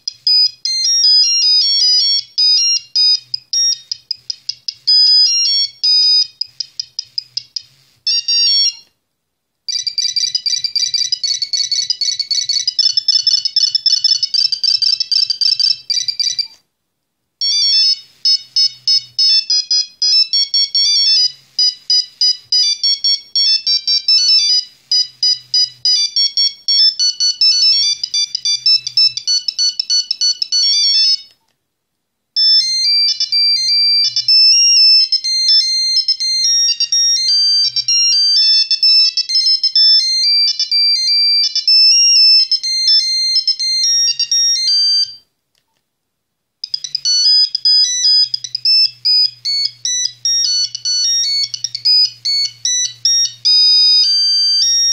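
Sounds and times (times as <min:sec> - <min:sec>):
mobile phone ringtone beeping: 0:00.0 - 0:08.9, 0:09.7 - 0:16.6, 0:17.4 - 0:31.3, 0:32.4 - 0:45.2, 0:46.6 - 0:54.9.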